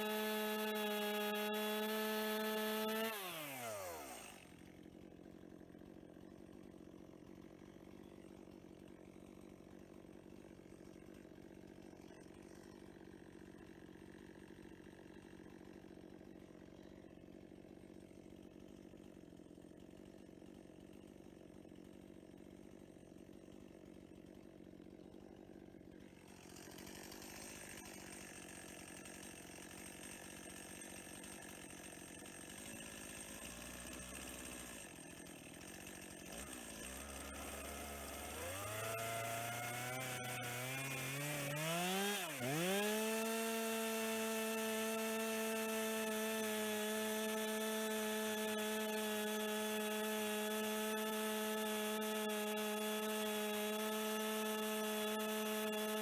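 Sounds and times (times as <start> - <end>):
chainsaw engine idling: 0.0 - 56.0.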